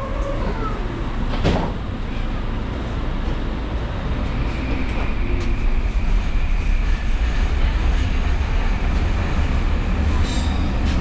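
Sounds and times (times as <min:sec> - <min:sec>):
train car rumbling on track: 0:00.0 - 0:11.0.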